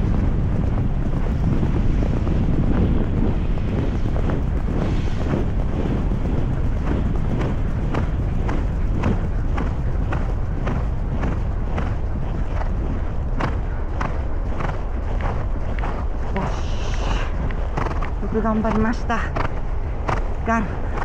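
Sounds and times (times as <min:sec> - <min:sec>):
hoofbeats on sand: 0:00.0 - 0:21.0
wind noise on microphone: 0:00.0 - 0:21.0.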